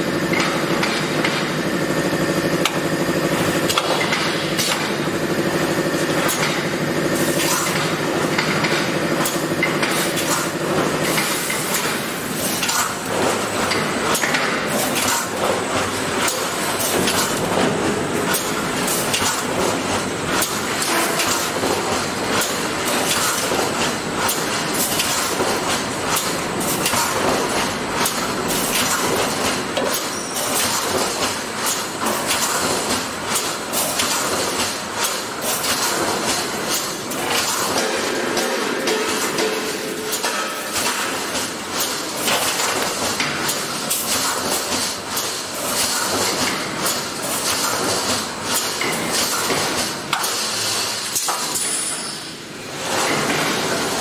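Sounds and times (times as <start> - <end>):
welding machine hum: 0.0 - 54.0.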